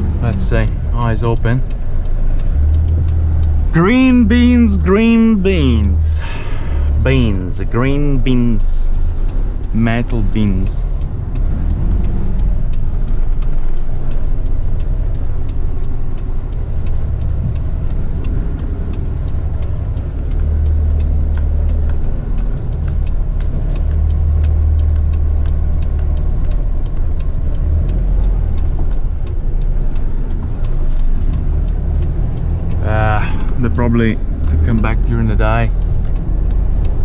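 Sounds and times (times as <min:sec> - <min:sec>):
faint regular ticking: 0:00.0 - 0:37.0
truck engine and road rumble: 0:00.0 - 0:37.0.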